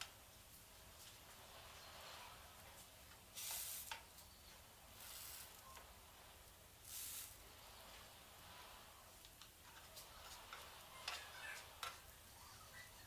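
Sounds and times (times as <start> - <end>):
faint sizzles in pan: 0.0 - 13.0.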